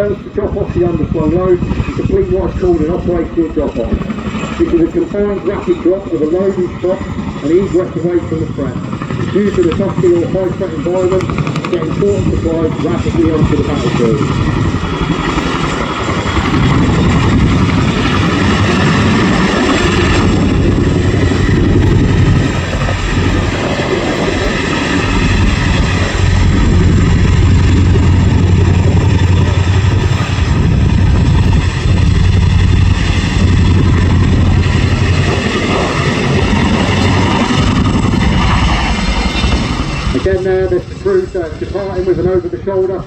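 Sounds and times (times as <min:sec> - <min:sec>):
helicopter rotors beating: 0:00.0 - 0:43.0
turbine whine: 0:00.0 - 0:43.0.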